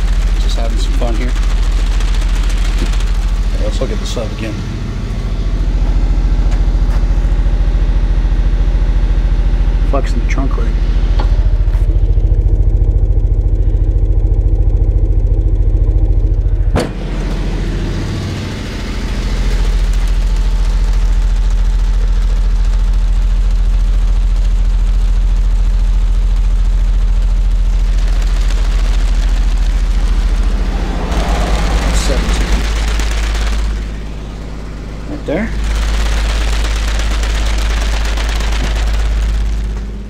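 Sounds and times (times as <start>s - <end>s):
subwoofer deep test tone hum: 0.0s - 40.0s.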